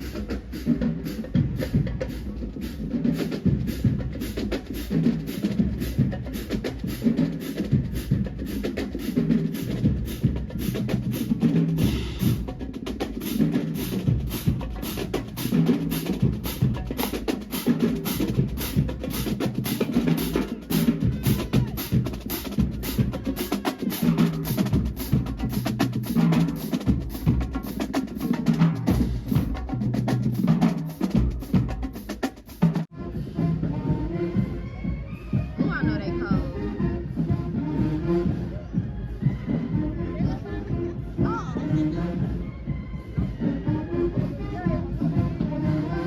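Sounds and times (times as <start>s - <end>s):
drumline snare and bass drums: 0.0s - 46.0s.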